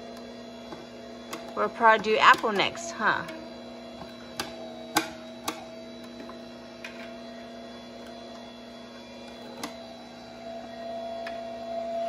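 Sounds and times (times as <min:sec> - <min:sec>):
juicer motor humming: 0:00.0 - 0:12.0.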